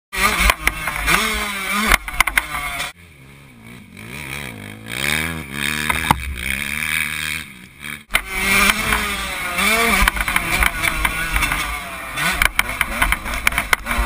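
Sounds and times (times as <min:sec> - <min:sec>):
dirt bike engine revving: 0:00.2 - 0:14.0
dirt bike riding past: 0:00.2 - 0:14.0.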